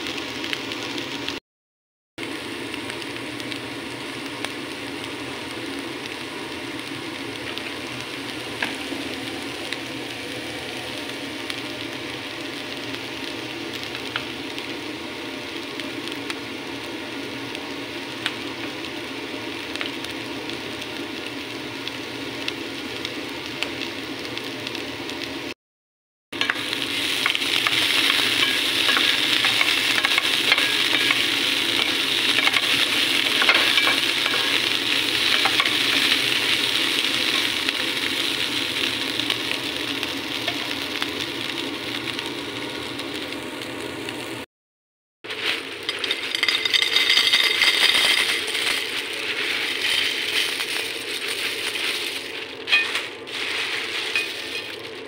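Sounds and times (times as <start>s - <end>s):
food sizzling in a frying pan: 0.0s - 1.4s, 2.2s - 25.6s, 26.4s - 44.5s, 45.2s - 55.0s.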